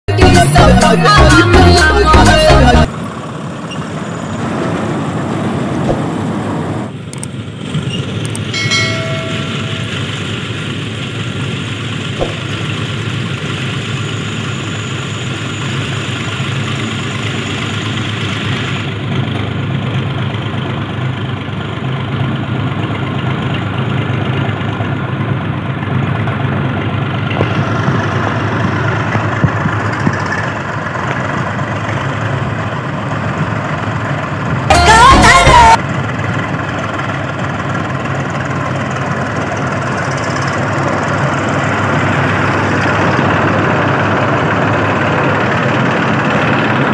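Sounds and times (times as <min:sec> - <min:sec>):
diesel tractor engines running: 0:00.0 - 0:46.9.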